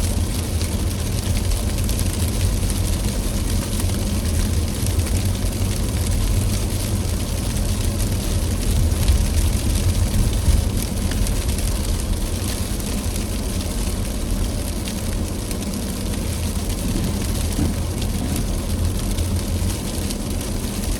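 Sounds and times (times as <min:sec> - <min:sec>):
car engine and road rumble: 0:00.0 - 0:20.9
tyres hissing on snowy road: 0:00.0 - 0:20.9.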